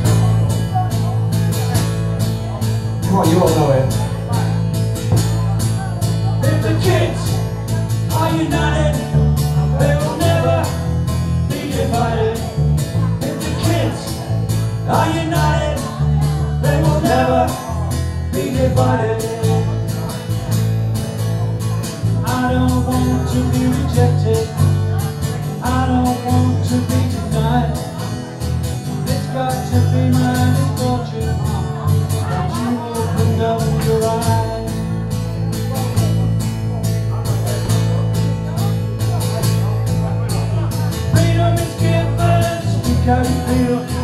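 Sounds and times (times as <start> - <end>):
acoustic guitar strumming: 0.0 - 44.0
electric bass guitar: 0.0 - 44.0
man singing into a microphone: 6.0 - 36.2, 38.6 - 44.0.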